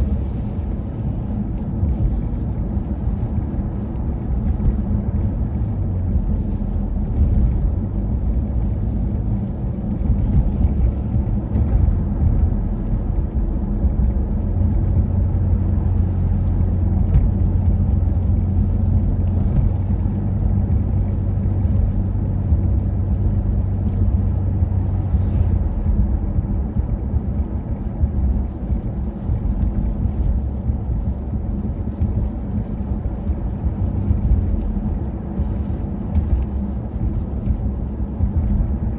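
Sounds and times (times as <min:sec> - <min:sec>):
deep steady hum: 0:00.0 - 0:38.9.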